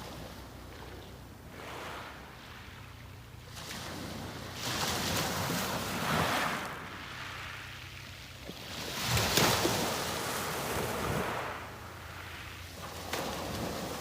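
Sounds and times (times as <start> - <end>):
sea waves breaking on beach: 1.4 - 14.0.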